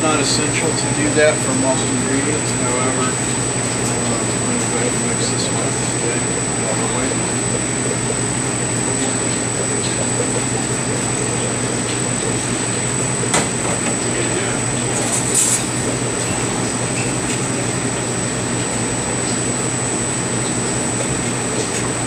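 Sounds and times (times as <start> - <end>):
machinery drone with whine: 0.0 - 22.0.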